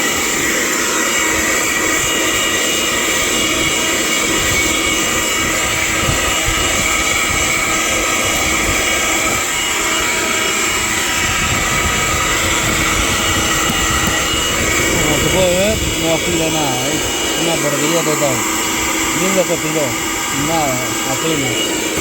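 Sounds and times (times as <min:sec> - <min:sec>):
handheld vacuum cleaner running: 0:00.0 - 0:22.0.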